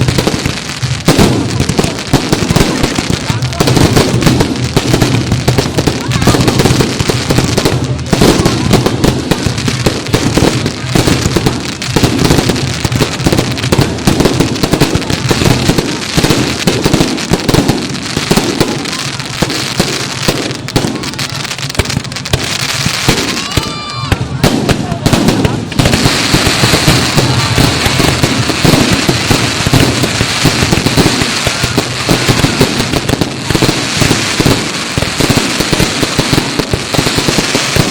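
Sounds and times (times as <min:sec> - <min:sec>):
fireworks bangs and crackles: 0:00.0 - 0:37.9
voices: 0:01.4 - 0:13.6, 0:18.4 - 0:37.3.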